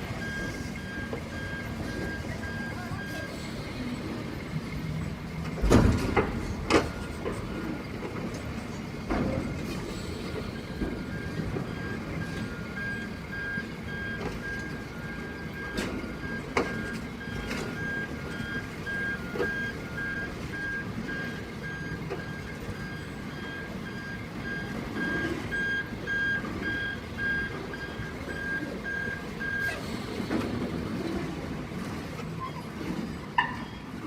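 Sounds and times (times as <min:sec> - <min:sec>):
low engine rumble: 0:00.0 - 0:34.0
vehicle reversing alarm beeping: 0:00.0 - 0:34.0.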